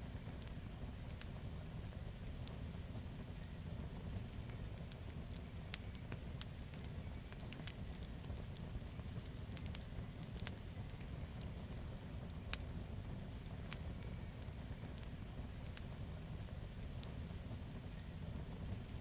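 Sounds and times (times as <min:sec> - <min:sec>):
campfire flames rumbling: 0:00.0 - 0:19.0
wood crackling and popping: 0:00.0 - 0:19.0.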